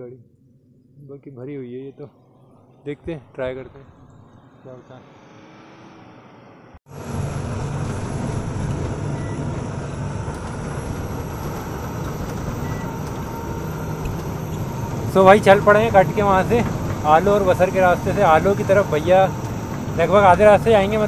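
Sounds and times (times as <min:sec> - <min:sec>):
faint roadside ambience: 0:00.0 - 0:21.0
vehicle engine and road noise: 0:02.0 - 0:21.0.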